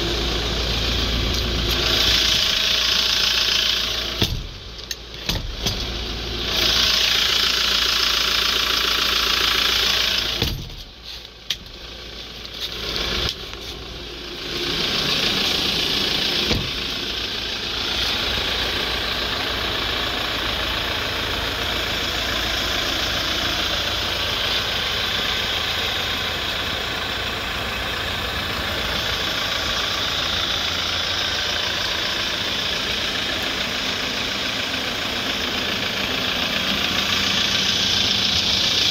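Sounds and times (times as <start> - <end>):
diesel engine idling: 0.0 - 38.9
hiss: 1.5 - 4.6, 5.3 - 11.4, 12.7 - 38.9.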